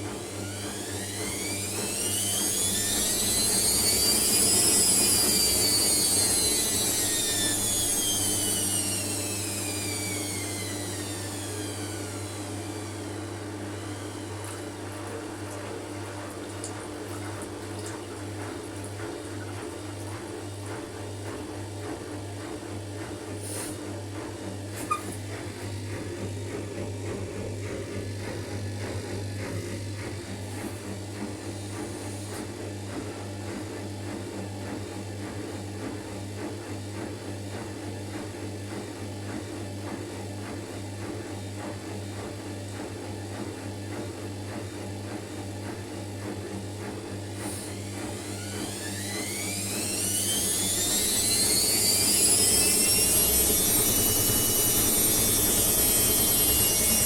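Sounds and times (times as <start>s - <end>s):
washing machine motor whining: 0.0s - 57.0s.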